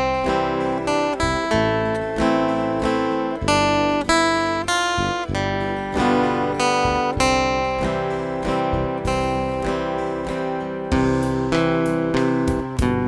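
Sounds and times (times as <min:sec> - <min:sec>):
acoustic guitar slow melody: 0:00.0 - 0:13.0.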